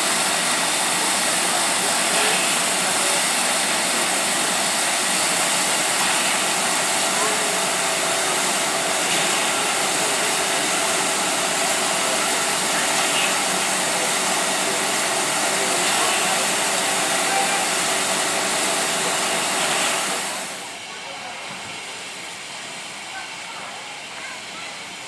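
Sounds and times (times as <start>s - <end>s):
steam locomotive hissing steam: 0.0s - 25.0s.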